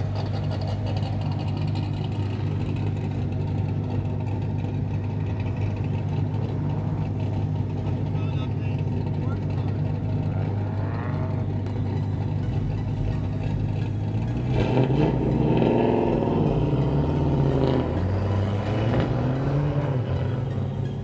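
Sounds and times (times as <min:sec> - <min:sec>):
car engines idling: 0:00.0 - 0:21.0
engine revving: 0:00.0 - 0:21.0.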